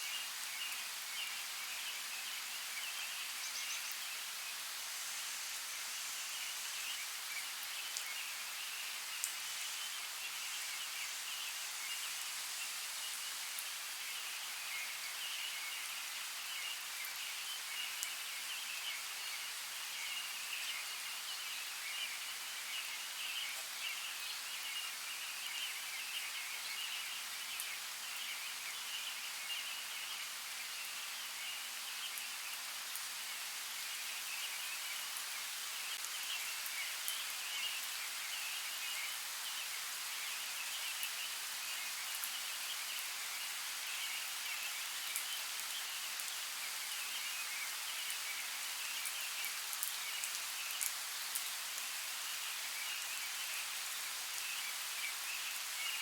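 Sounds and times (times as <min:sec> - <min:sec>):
forest creek running water: 0:00.0 - 0:56.0.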